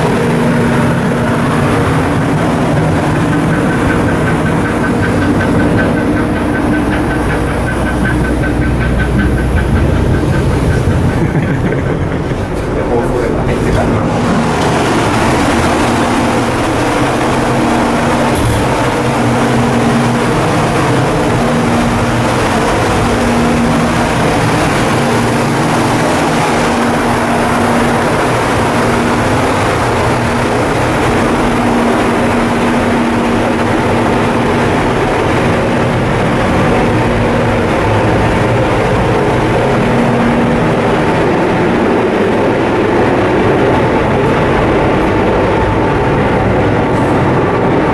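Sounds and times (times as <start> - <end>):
ship diesel engine running: 0.0 - 47.9.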